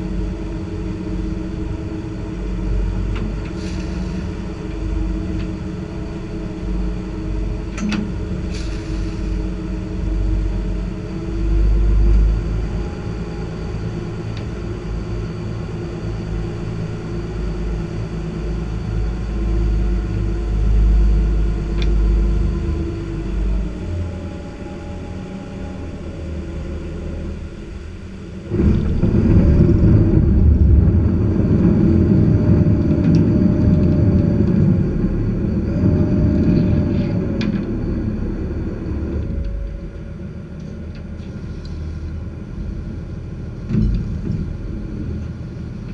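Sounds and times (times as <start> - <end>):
boat engine low rumble: 0.0 - 45.9.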